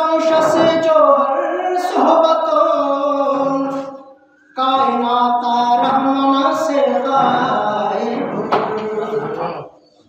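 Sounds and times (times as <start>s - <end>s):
man chanting into a microphone: 0.0s - 9.7s.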